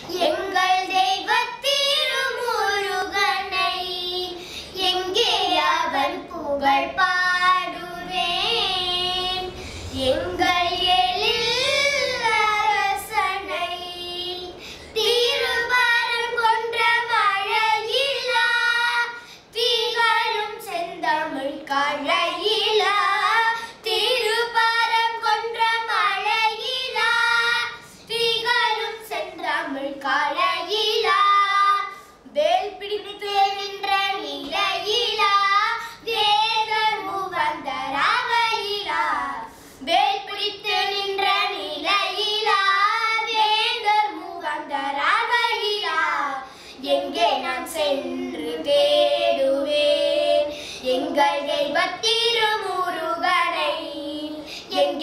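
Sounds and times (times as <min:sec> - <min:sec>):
girls singing unaccompanied: 0:00.0 - 0:55.0.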